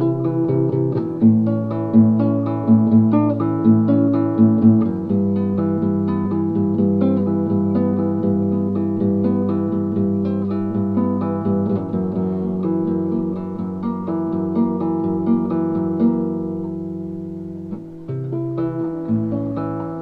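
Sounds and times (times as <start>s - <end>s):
acoustic guitar plucking: 0.0s - 20.0s.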